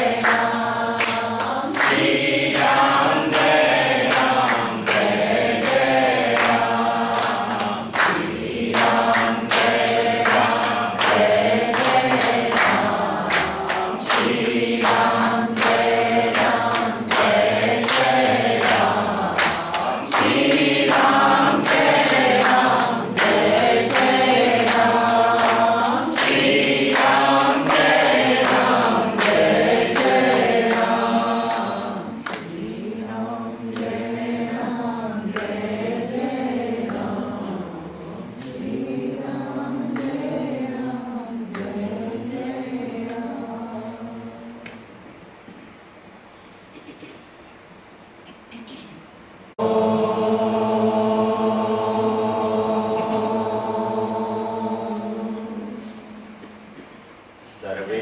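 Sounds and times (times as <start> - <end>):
rhythmic hand clapping: 0.0 - 45.0, 49.6 - 57.0
group singing devotional song: 0.0 - 45.2, 49.5 - 58.0.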